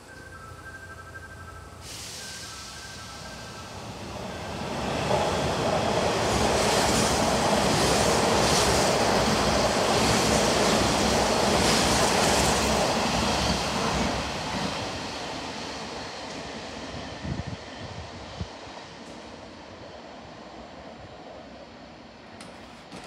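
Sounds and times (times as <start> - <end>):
train wheels rumbling on rails: 0.0 - 20.1, 22.3 - 23.0.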